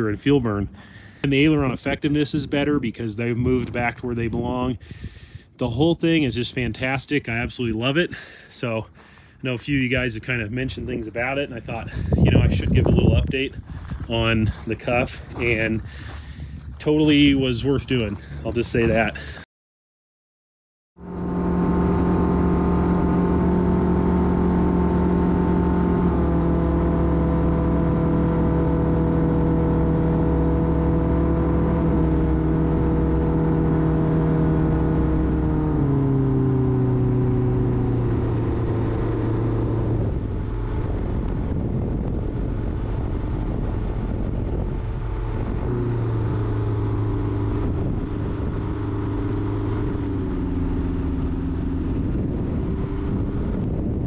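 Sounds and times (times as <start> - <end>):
aircraft engine running: 0.0 - 2.6, 8.0 - 19.5, 21.0 - 54.0.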